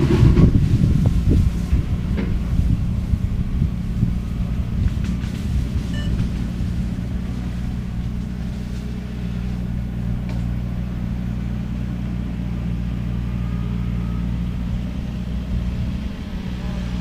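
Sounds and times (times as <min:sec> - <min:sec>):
skid steer engine running: 0:00.0 - 0:17.0.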